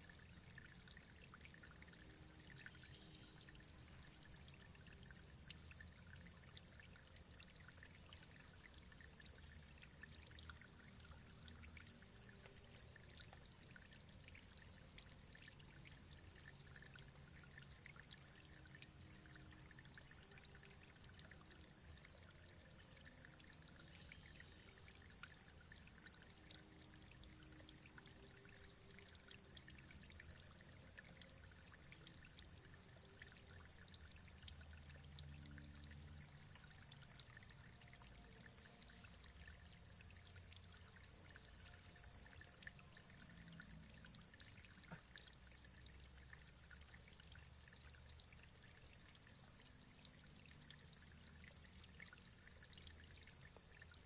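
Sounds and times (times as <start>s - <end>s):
faint running water: 0.0s - 54.0s.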